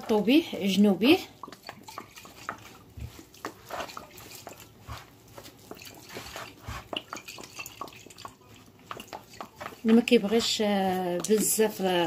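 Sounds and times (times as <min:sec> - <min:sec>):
dough squishing and crackling: 0:00.0 - 0:12.0.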